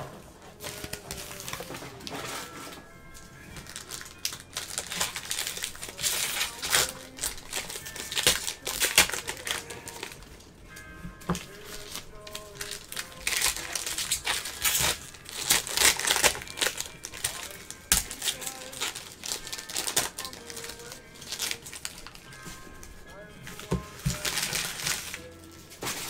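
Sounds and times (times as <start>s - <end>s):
foil wrappers crinkling and tearing: 0.5s - 26.0s.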